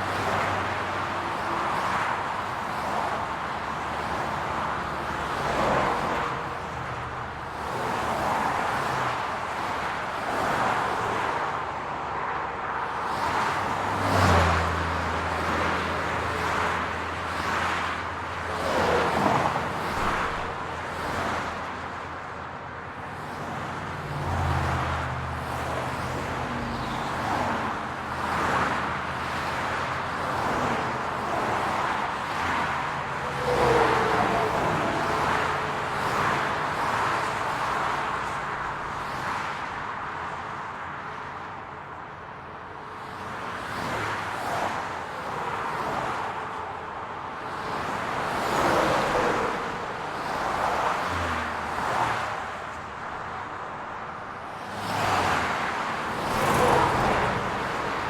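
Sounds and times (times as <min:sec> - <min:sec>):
cars passing: 0:00.0 - 0:58.0.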